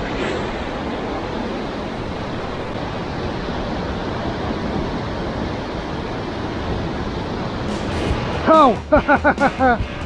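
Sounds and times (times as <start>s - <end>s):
rough sea breaking on rocks: 0.0s - 10.0s.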